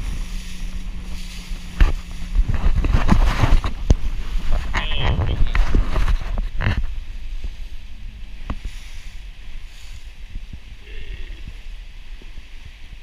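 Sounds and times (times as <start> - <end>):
motorboat engine rumbling: 0.0 - 13.0
wind on microphone: 0.0 - 13.0.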